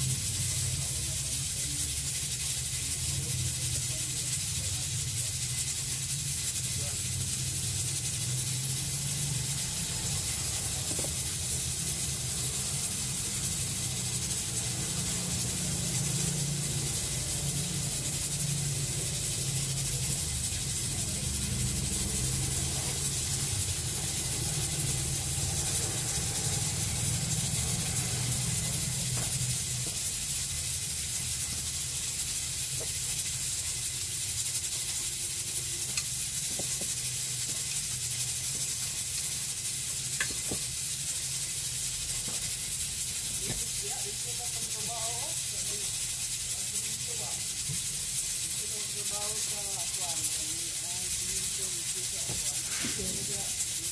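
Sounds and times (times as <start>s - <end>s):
background hiss: 0.0s - 53.9s.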